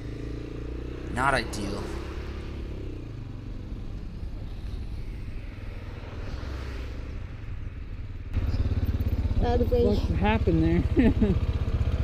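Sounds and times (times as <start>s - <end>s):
motorcycle engine drone: 0.0s - 12.0s
road and wind noise: 0.0s - 12.0s.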